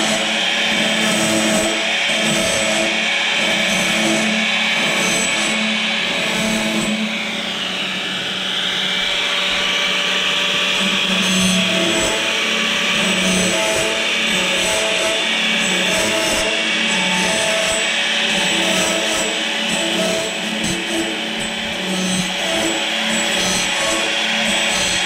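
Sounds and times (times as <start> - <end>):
grinding saw blade teeth: 0.0 - 25.0
power tool motor running: 0.0 - 25.0.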